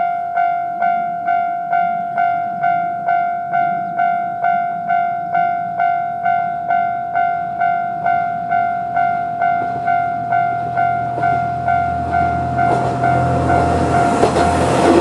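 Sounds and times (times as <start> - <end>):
level crossing warning bell: 0.0 - 15.0
diesel railcar rumble: 0.7 - 15.0.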